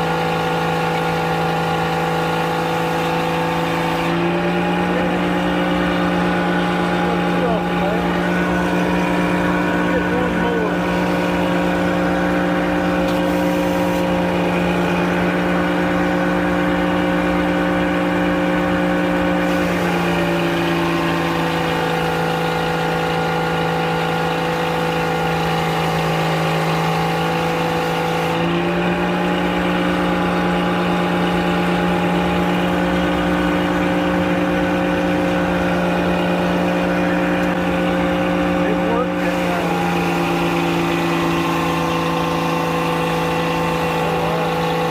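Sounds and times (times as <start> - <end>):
circular sawmill running: 0.0 - 44.9.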